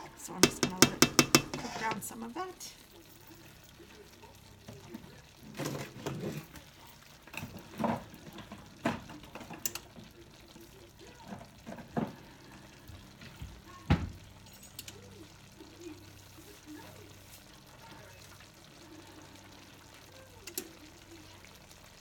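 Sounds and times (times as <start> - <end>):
sauce simmering with bubbles popping: 0.0 - 22.0.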